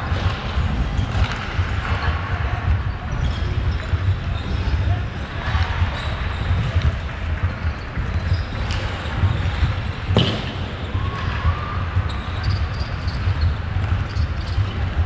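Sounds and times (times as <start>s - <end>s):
steady low rink rumble: 0.0s - 15.0s.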